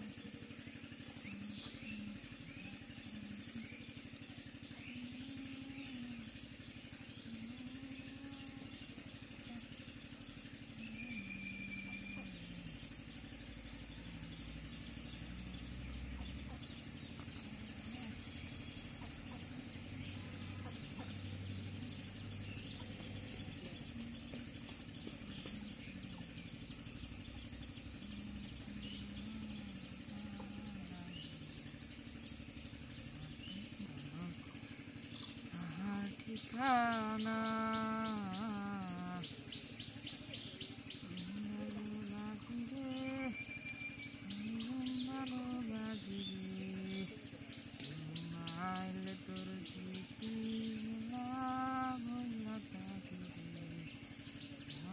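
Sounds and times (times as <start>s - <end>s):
faint wavering low hum: 0.0s - 54.9s
bird chirps: 9.0s - 54.9s.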